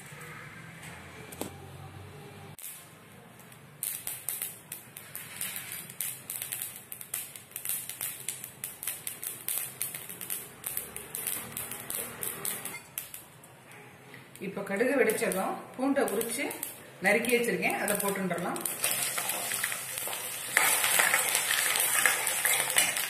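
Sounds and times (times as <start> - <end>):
mustard seeds popping in oil: 2.6 - 13.5, 14.3 - 23.0.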